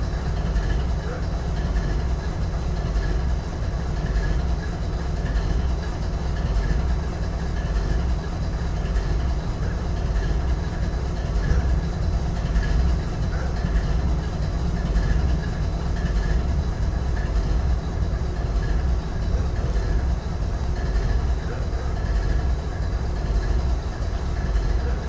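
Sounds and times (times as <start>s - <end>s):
locomotive diesel engine idling: 0.0s - 25.0s.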